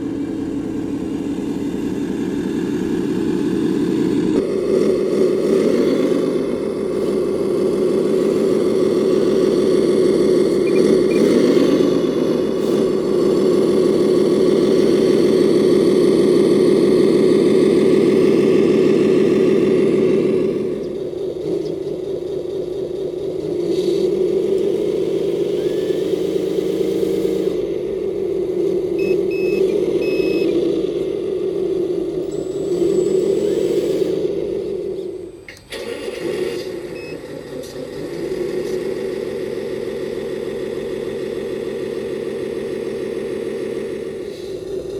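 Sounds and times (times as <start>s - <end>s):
toy truck motor drone: 1.9s - 44.9s.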